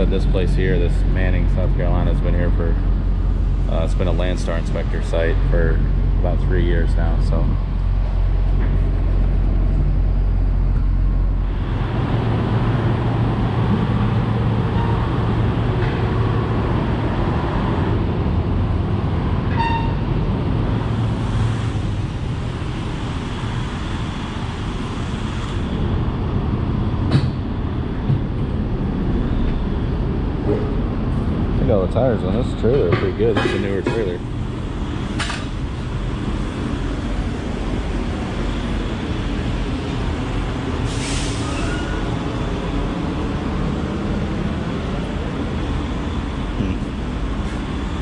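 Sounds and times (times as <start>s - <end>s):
diesel truck engine idling: 0.0s - 48.0s.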